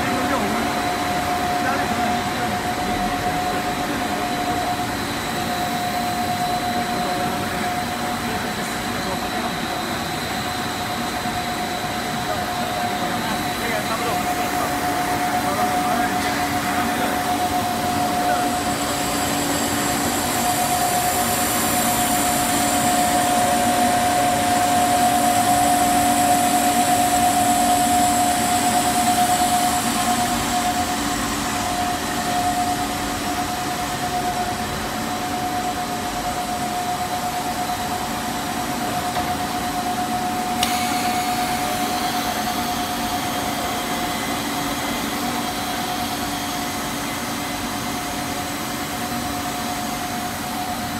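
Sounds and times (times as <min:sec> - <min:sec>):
factory machinery noise: 0:00.0 - 0:50.9
mid-pitched machine whine: 0:00.0 - 0:50.9.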